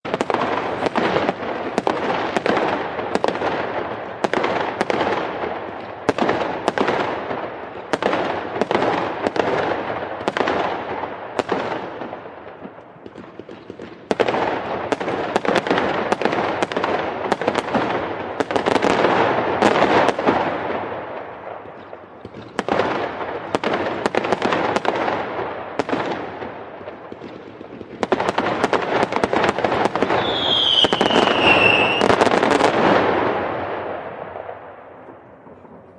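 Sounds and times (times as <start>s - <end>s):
fireworks crackling: 0.0s - 35.9s
fireworks exploding: 0.0s - 35.9s.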